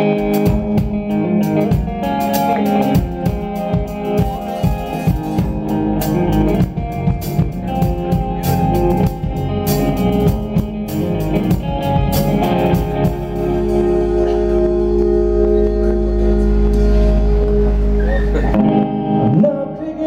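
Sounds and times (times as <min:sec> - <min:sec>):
drum kit with cymbals: 0:00.0 - 0:18.8
bass guitar: 0:00.0 - 0:20.0
electric guitar: 0:00.0 - 0:20.0.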